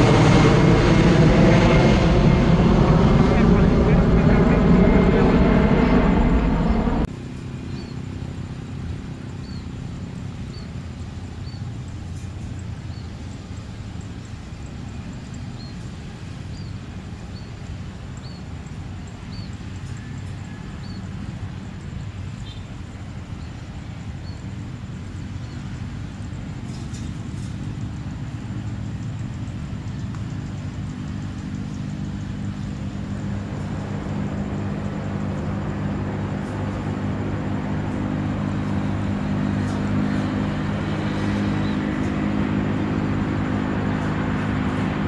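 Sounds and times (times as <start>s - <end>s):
low outdoor rumble: 0.0s - 45.0s.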